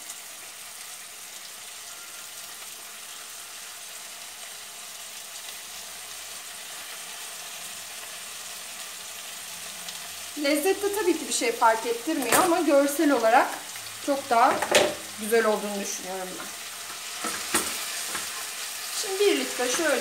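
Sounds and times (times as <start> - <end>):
beans sizzling in oil: 0.0 - 20.0.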